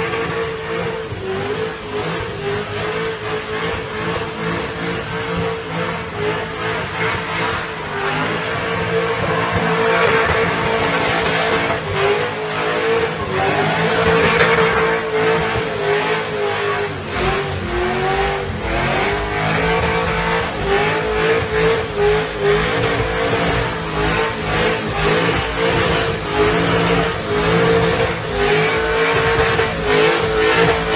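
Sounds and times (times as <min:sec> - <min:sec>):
car engine at high revs: 0:00.0 - 0:30.9.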